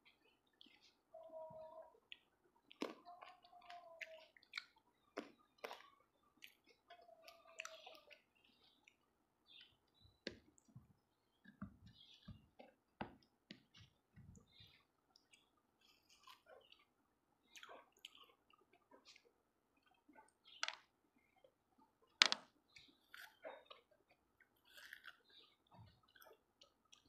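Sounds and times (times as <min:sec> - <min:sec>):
chewing fruit: 0:00.0 - 0:27.0.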